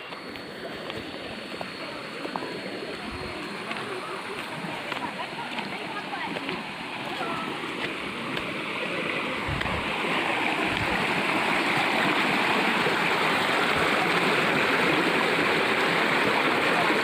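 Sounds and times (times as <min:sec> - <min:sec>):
waterfall rushing: 0:00.8 - 0:17.0.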